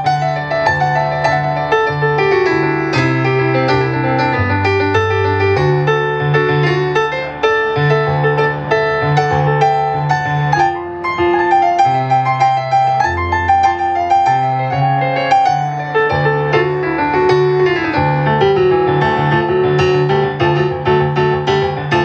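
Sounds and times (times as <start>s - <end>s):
keyboard playing piano melody: 0.0s - 22.0s.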